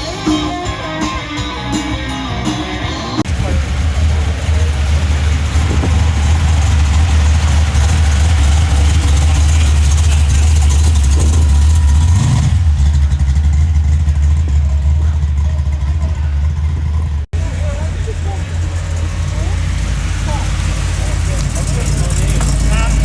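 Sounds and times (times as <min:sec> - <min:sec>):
car engine idling: 0:03.2 - 0:23.0.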